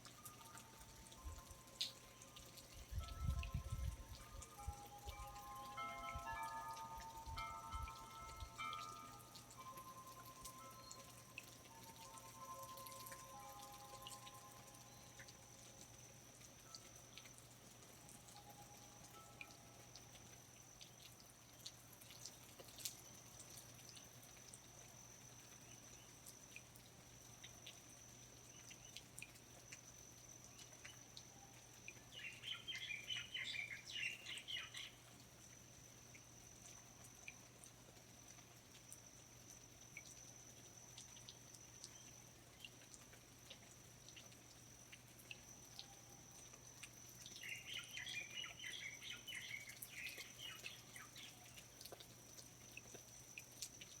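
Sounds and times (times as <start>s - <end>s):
water drips: 0.0s - 54.0s.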